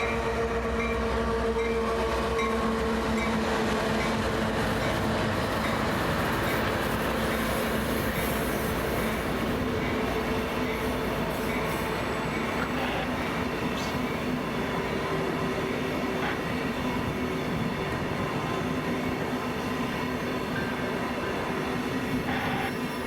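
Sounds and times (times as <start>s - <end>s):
train wheels on rail: 0.0s - 23.0s.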